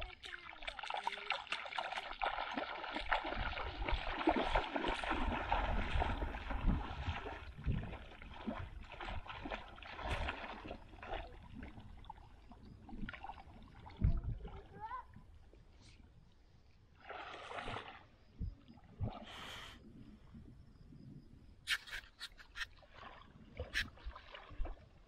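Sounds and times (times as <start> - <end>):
water splashing and sloshing: 0.0 - 20.8, 21.7 - 25.0.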